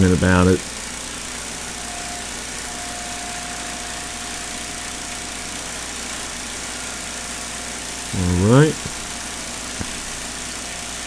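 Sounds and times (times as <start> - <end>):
small engine running: 0.0 - 11.0
thin steady whine: 0.0 - 11.0.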